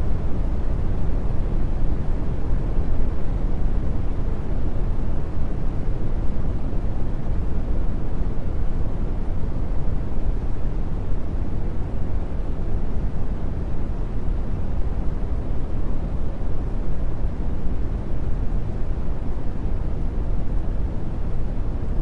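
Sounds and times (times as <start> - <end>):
brown noise rumbling hiss: 0.0 - 22.0.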